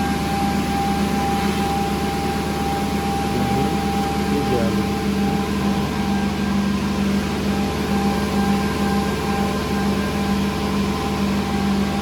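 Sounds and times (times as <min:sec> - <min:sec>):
machine hum with whine: 0:00.0 - 0:12.0.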